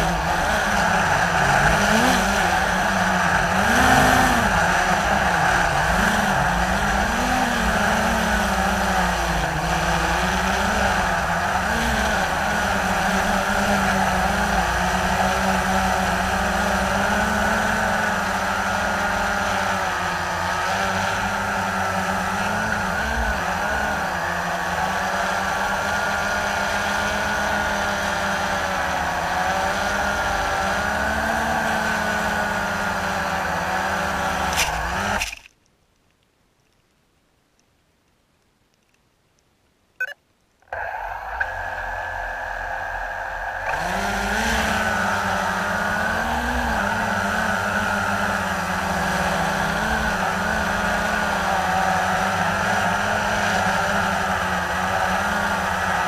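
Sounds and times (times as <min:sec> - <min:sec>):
quadcopter propellers whirring: 0:00.0 - 0:35.4, 0:40.0 - 0:56.0.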